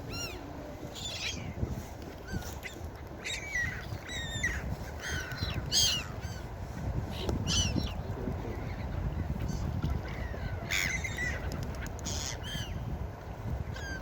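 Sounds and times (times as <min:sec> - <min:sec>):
gulls calling: 0:00.0 - 0:12.9, 0:13.7 - 0:14.0.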